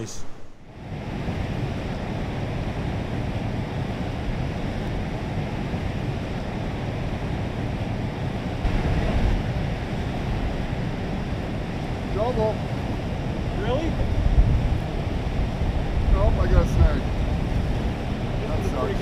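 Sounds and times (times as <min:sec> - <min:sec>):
wind buffeting microphone: 0:00.0 - 0:19.0
river water rushing: 0:00.7 - 0:19.0.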